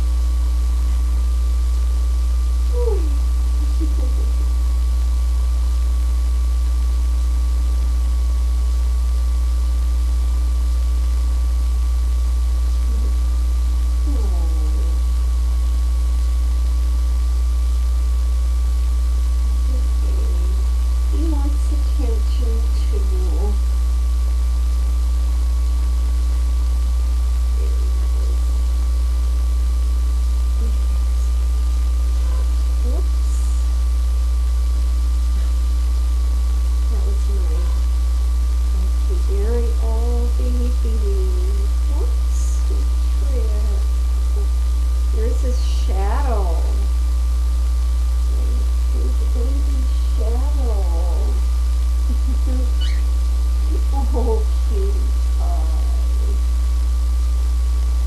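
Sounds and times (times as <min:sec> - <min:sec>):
background hiss: 0:00.0 - 0:58.0
low electrical hum: 0:00.0 - 0:58.0
thin steady whine: 0:00.0 - 0:58.0.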